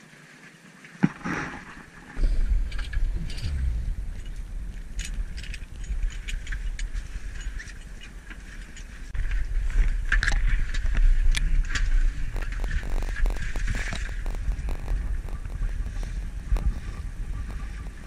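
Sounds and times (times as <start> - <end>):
low rumble: 2.2 - 18.0.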